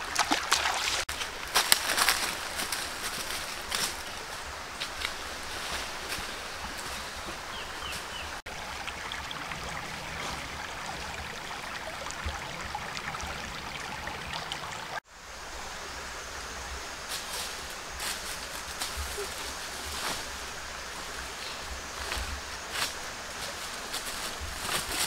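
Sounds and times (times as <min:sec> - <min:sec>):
forest stream rushing: 0:00.0 - 0:25.0.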